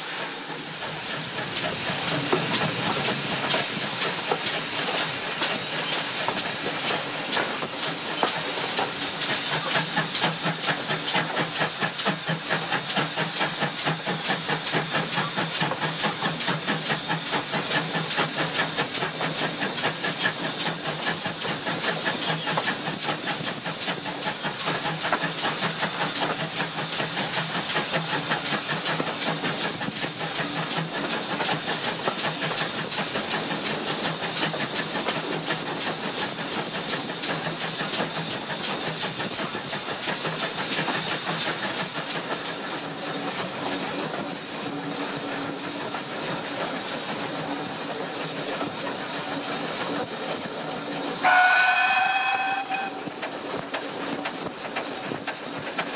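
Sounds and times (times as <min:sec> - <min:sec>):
steam hissing: 0:00.0 - 0:55.9
steam locomotive exhaust beats: 0:00.0 - 0:55.9.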